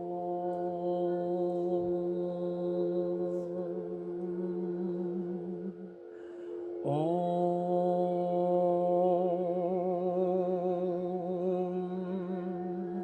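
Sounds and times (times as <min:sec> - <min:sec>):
person chanting hummed note: 0:00.0 - 0:13.0
singing bowl tone: 0:00.0 - 0:13.0.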